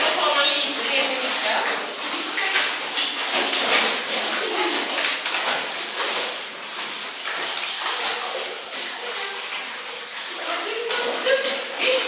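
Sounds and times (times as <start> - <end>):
dog paddling splashing water: 0.0 - 12.0.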